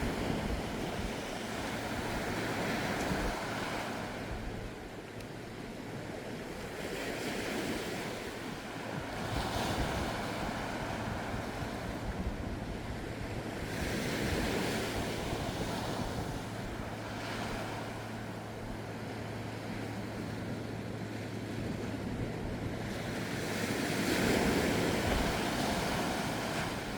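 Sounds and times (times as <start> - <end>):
sea waves washing ashore: 0.0 - 26.9.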